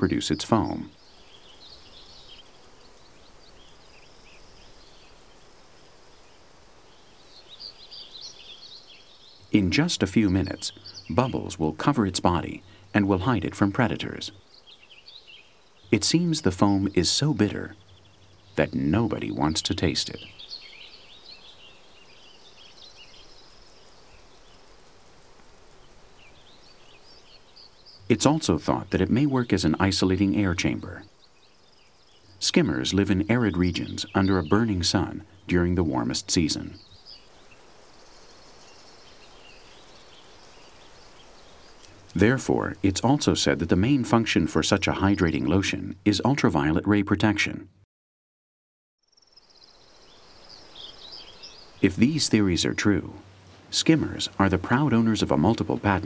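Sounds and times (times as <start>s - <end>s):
birds chirping: 0.0s - 47.8s, 49.0s - 56.0s
low even hiss: 0.0s - 47.8s, 49.1s - 56.0s.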